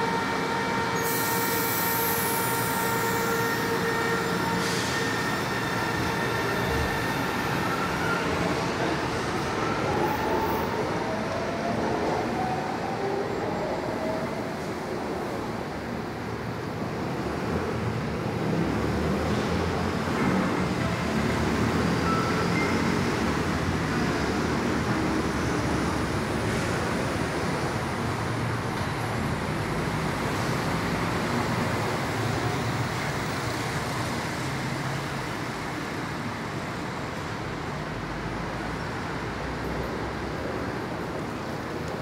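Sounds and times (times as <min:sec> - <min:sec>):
city road traffic: 0:00.0 - 0:42.0
train rumbling on track: 0:00.0 - 0:42.0.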